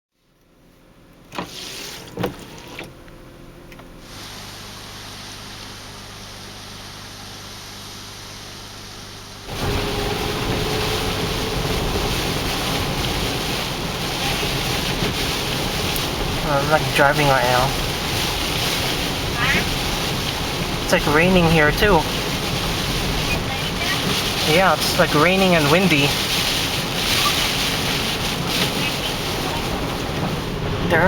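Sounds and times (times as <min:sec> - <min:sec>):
low engine hum: 0:00.2 - 0:31.0
road rain and wind noise: 0:01.2 - 0:31.0.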